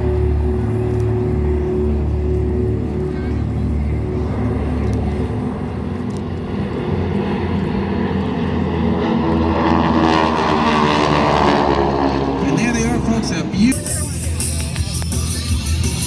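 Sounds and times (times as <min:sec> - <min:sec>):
propeller planes droning past: 0:00.0 - 0:16.0.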